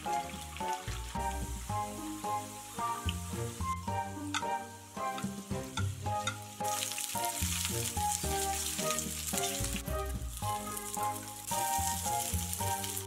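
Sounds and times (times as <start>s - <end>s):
background music: 0.0s - 13.0s
food sizzling in a frying pan: 0.3s - 13.0s.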